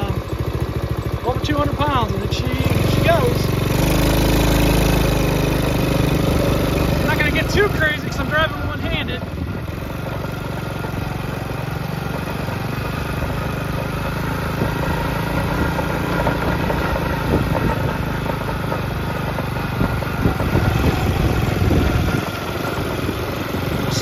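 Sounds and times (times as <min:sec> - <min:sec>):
small quad engine running: 0:00.0 - 0:24.0
knocks and rattles over bumps: 0:01.2 - 0:24.0.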